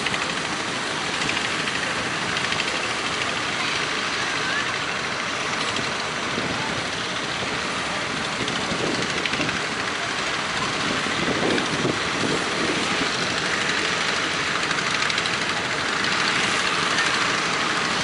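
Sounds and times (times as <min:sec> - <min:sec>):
boat engine chugging: 0:00.0 - 0:18.0
continuous rushing noise: 0:00.0 - 0:18.0.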